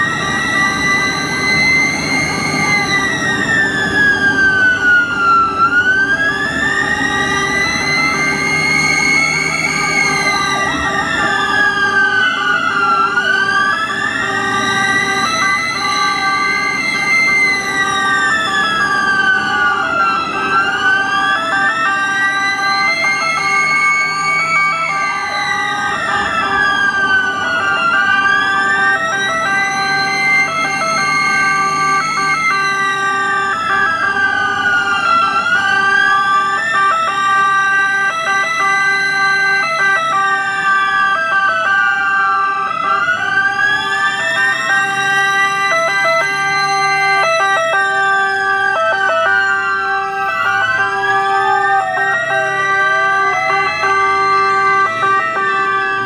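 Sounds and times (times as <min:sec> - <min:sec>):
ambulance siren wailing: 0:00.0 - 0:56.0
pulsing siren tones: 0:00.0 - 0:56.0.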